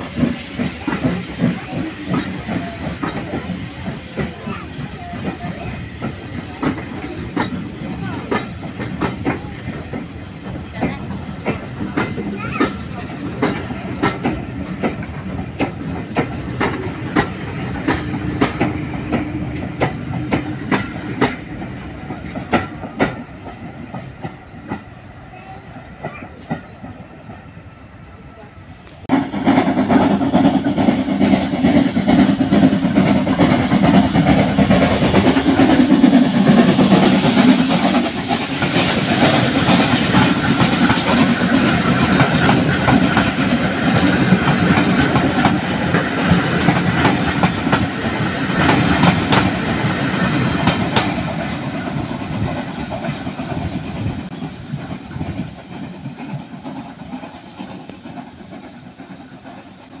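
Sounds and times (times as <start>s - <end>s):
train wheels clattering over rail joints: 0.0s - 25.2s, 28.8s - 60.0s
steam locomotive rumbling past: 0.0s - 60.0s.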